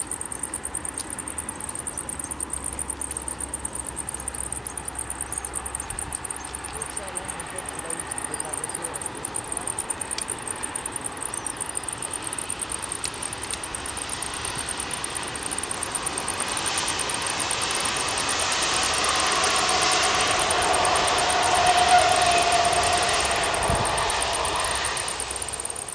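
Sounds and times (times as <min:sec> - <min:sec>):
electric train passing: 0:00.0 - 0:25.9
insects buzzing: 0:00.0 - 0:25.9.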